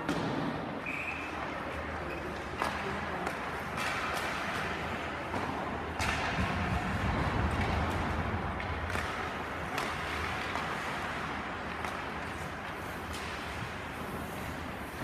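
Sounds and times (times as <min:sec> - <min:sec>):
sharp cracks of sticks and puck: 0:00.0 - 0:15.0
skates scraping ice: 0:00.8 - 0:15.0.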